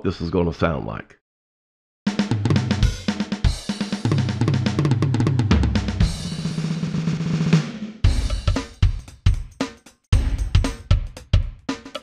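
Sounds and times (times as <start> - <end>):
drum machine beat: 2.1 - 12.0.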